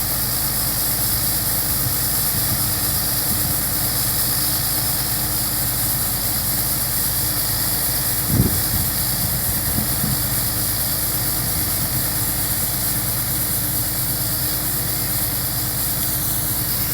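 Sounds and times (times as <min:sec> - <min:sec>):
combine harvester engine droning: 0:00.0 - 0:16.9.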